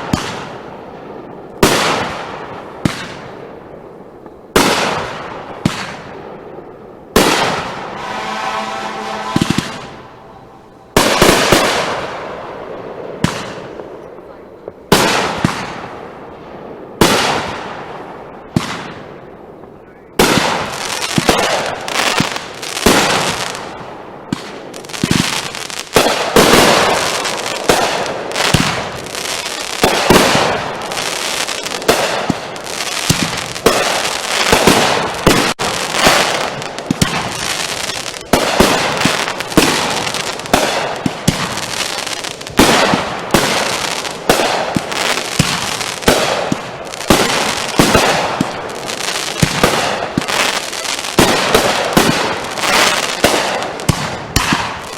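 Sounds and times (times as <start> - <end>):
fireworks bangs: 0.0 - 54.9
fireworks crackling: 0.0 - 54.9.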